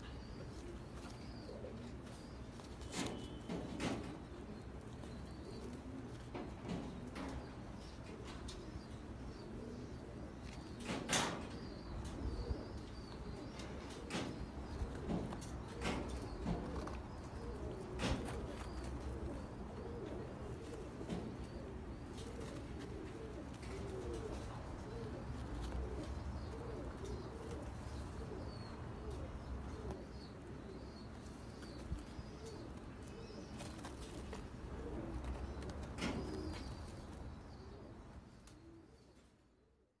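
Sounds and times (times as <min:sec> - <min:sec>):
pigeons cooing: 0:00.0 - 0:39.3.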